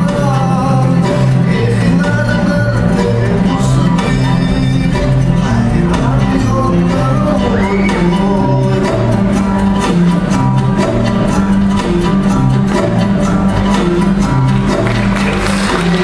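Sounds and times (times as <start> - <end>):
show music with steady beat: 0.0 - 16.0.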